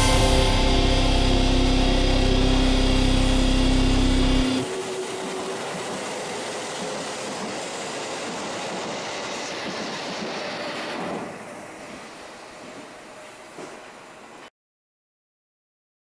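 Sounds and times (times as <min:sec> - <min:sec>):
electric train running past: 0:00.0 - 0:14.5.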